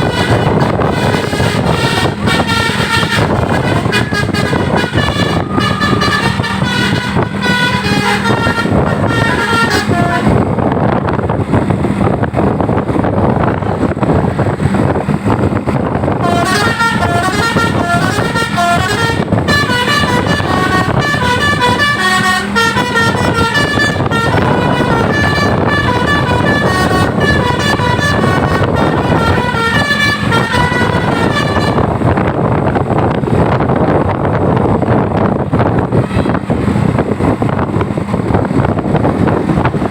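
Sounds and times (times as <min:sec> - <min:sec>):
multi-tone bus air horn melody: 0:00.0 - 0:11.1, 0:15.8 - 0:39.9
vehicle running noise: 0:00.0 - 0:39.9.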